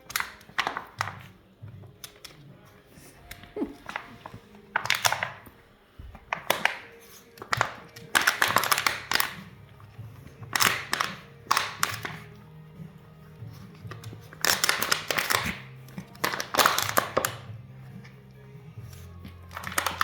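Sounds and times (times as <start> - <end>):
plastic bottle crinkling: 0.0 - 2.5, 3.2 - 12.3, 13.5 - 17.5, 19.3 - 20.0.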